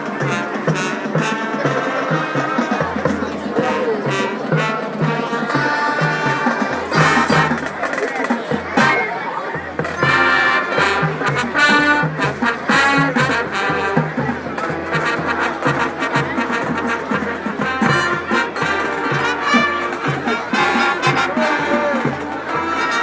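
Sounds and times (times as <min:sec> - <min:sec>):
drums: 0:00.0 - 0:23.0
marching band playing swing: 0:00.0 - 0:23.0.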